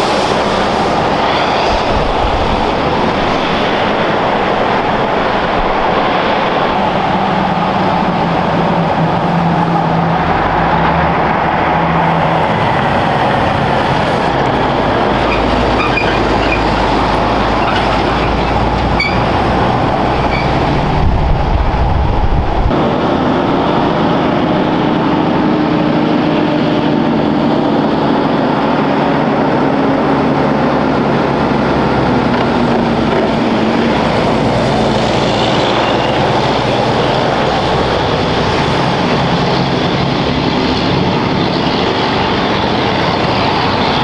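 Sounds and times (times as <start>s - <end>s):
heavy trucks driving past: 0.0s - 44.0s.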